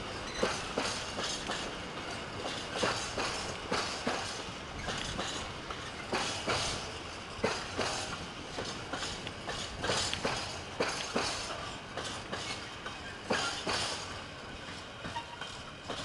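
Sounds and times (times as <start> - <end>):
train rumble: 0.0 - 16.0
train wheels clattering over joints: 0.0 - 16.0.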